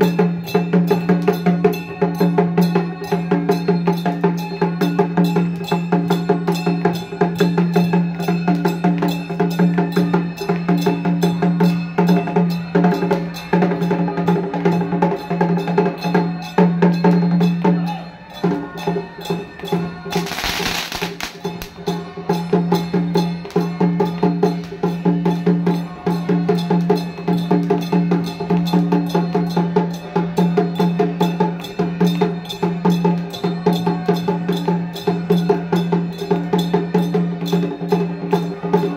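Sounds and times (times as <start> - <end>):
drums: 0.0 - 38.9.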